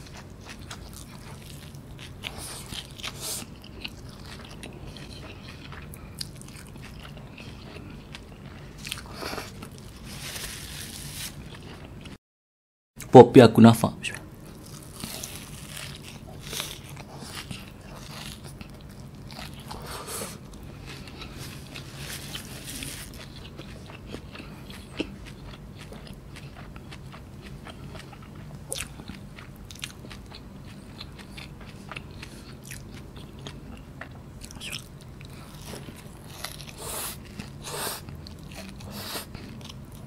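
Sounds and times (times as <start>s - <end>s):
crunchy pastry chewing: 0.0s - 12.2s, 14.4s - 40.0s.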